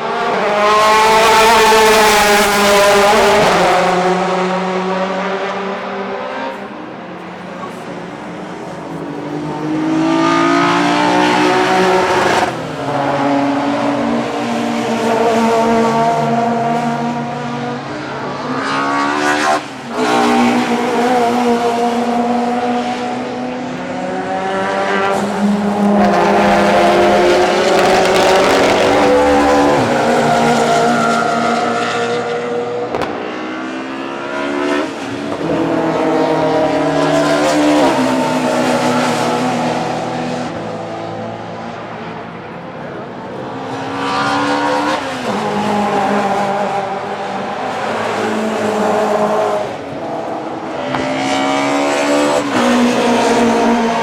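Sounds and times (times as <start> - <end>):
engines shifting gears: 0.0 - 54.0
racing cars passing: 0.0 - 54.0.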